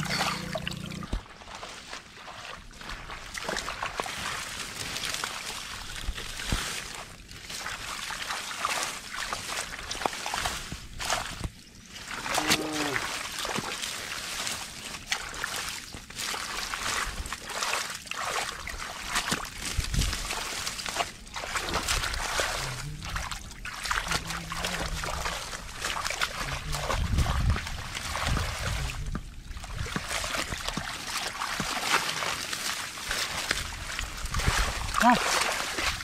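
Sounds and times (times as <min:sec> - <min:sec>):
muddy water sloshing and splashing: 0:00.0 - 0:36.0.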